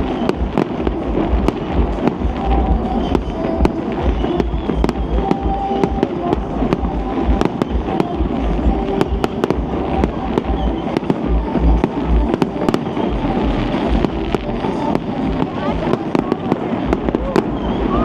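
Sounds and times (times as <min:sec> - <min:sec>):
background music: 0:00.0 - 0:18.0
fireworks booming: 0:00.0 - 0:18.0
fireworks cracking: 0:00.0 - 0:18.0.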